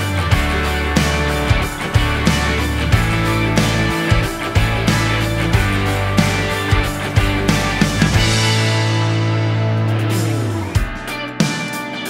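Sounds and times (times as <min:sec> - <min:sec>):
rock music with steady beat: 0:00.0 - 0:12.0.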